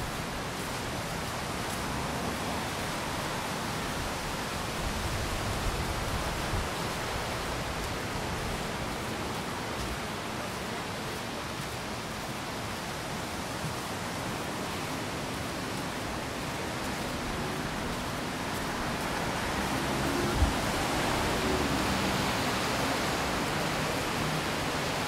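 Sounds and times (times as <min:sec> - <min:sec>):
outdoor ambience rushing noise: 0:00.0 - 0:25.0.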